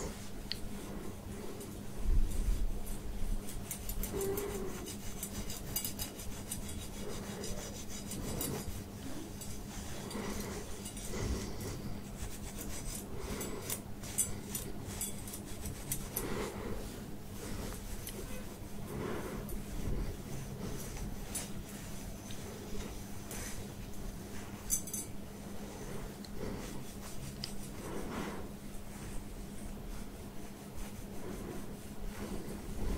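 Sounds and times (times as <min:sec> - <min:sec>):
metal tines scratching hair: 0:00.0 - 0:32.9.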